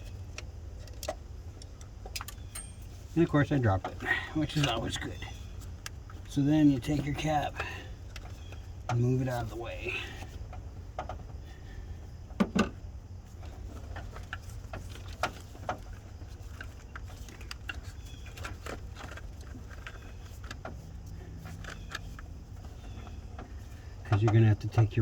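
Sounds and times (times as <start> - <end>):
engine parts clicking and knocking: 0.0 - 25.0
low steady rumble: 0.0 - 25.0.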